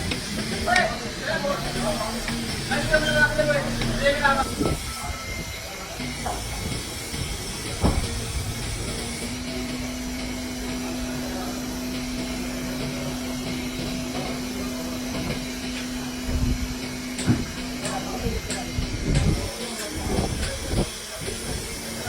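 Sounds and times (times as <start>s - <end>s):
machine hissing: 0.0s - 22.0s
steady hum: 0.0s - 22.0s.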